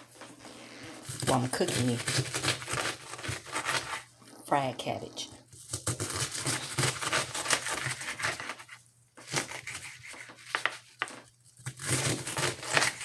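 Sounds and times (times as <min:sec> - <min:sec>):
cabbage crunching and tearing: 0:00.8 - 0:04.1, 0:05.5 - 0:13.0.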